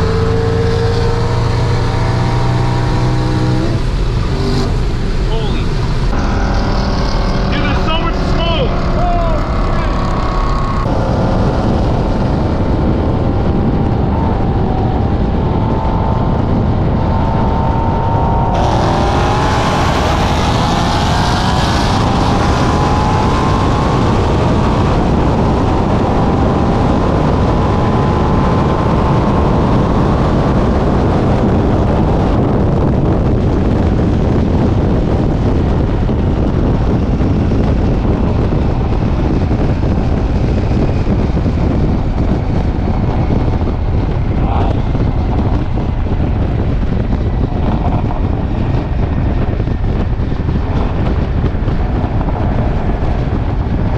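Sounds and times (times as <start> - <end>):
car engine accelerating: 0.0 - 53.9
wind and road noise: 0.0 - 53.9.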